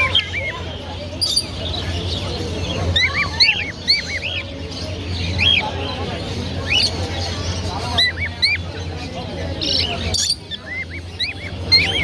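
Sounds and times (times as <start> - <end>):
cockatiels chirping: 0.0 - 12.0.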